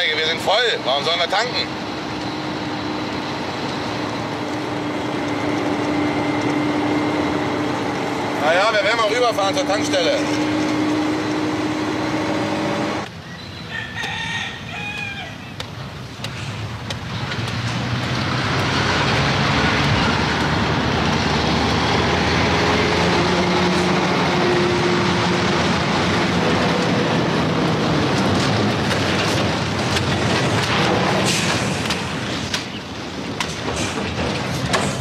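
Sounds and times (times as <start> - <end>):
truck driving past: 0.0 - 13.1, 16.4 - 32.4.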